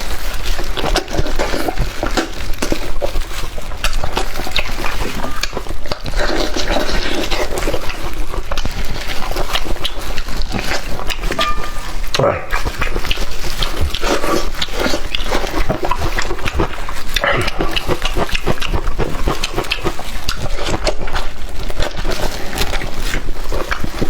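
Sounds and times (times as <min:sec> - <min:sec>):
sticky clicks and slurps: 0:00.0 - 0:24.0
wet chewing and lip-smacking: 0:00.0 - 0:24.0.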